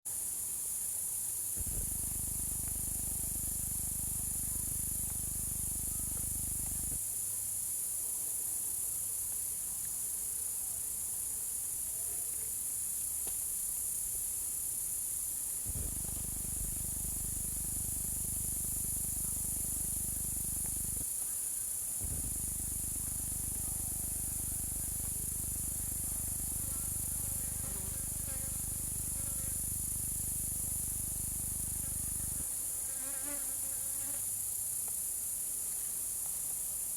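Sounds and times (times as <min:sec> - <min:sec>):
crickets chirping: 0:00.1 - 0:36.9.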